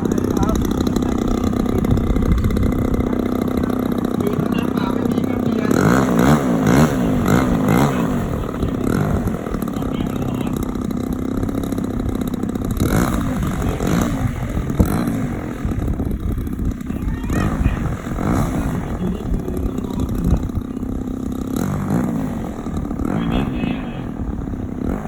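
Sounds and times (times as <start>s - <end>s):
model plane engine buzzing: 0.0s - 25.0s.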